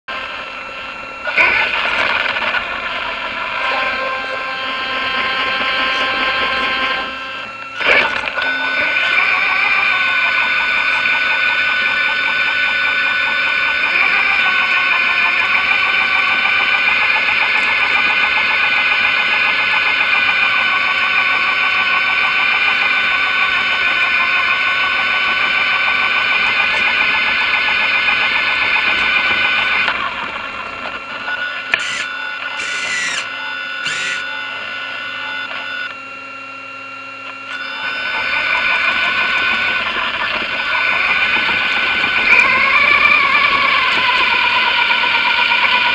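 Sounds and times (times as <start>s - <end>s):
rc truck motor whining: 0.1s - 45.9s.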